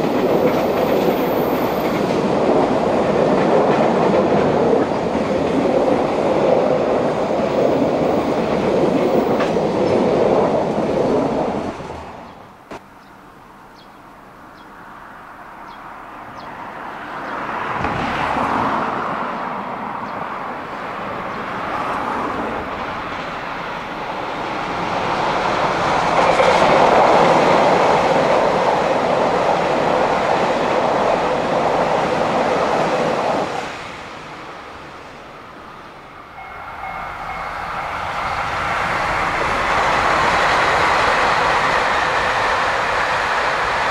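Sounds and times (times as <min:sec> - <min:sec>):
diesel trains passing: 0:00.0 - 0:43.9.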